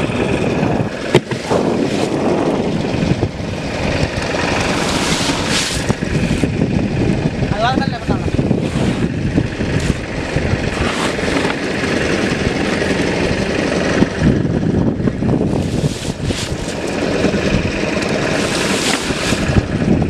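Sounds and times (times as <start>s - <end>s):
sea noise: 0.0s - 6.7s, 8.3s - 14.3s, 15.3s - 20.0s
boat engine running: 0.0s - 20.0s
wind: 0.0s - 20.0s.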